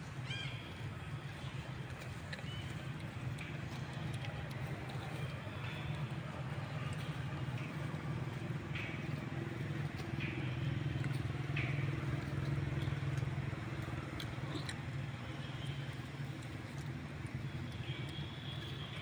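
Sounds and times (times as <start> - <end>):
low motor hum: 0.7 - 19.0.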